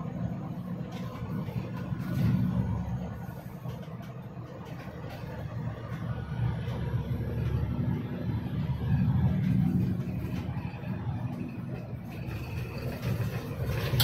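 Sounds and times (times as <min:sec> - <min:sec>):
vehicle driving on dirt road: 0:00.0 - 0:14.0.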